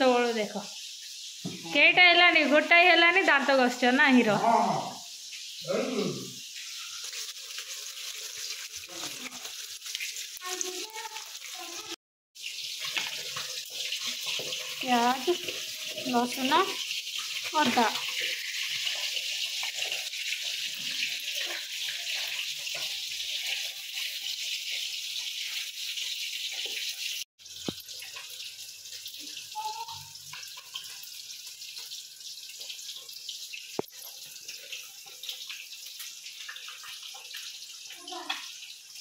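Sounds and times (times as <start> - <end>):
food sizzling in hot oil: 0.0 - 39.0.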